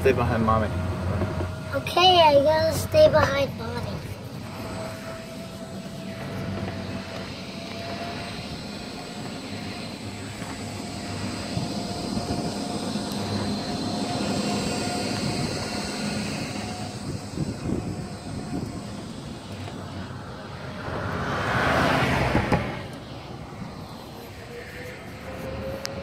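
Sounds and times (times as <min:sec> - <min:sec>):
golf cart motor hum: 0:00.0 - 0:21.4, 0:22.1 - 0:26.0
wind and tyre rush: 0:00.0 - 0:26.0.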